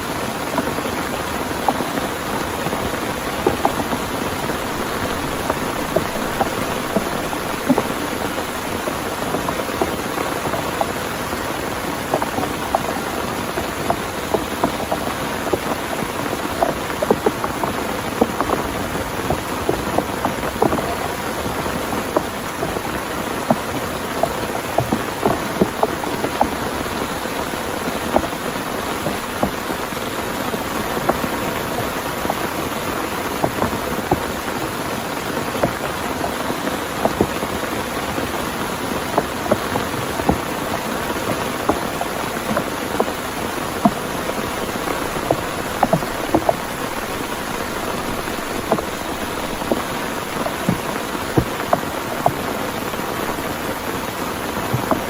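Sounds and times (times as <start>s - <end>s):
heavy rain: 0.0s - 55.0s
raindrops ticking on surface: 0.0s - 55.0s.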